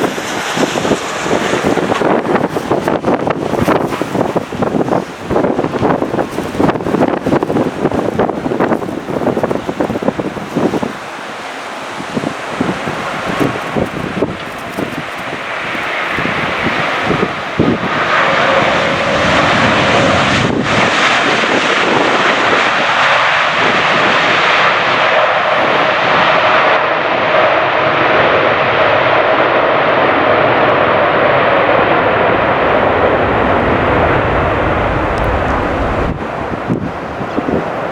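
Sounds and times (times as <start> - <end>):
jet airliner engines rushing: 0.0 - 37.9.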